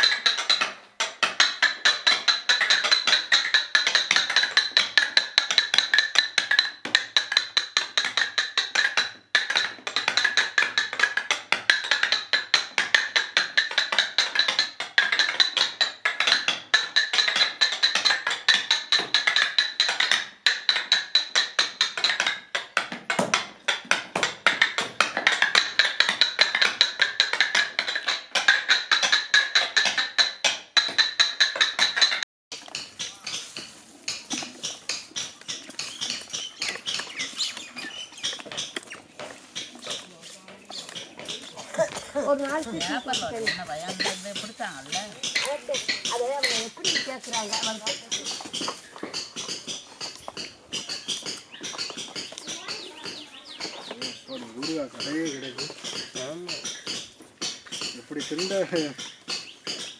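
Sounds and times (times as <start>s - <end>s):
paper tubes clicking and tapping: 0.0s - 37.4s, 38.0s - 59.9s.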